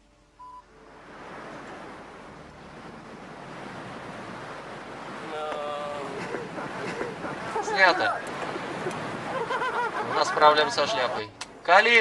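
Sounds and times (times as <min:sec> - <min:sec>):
strong wind rushing: 0:00.7 - 0:11.2.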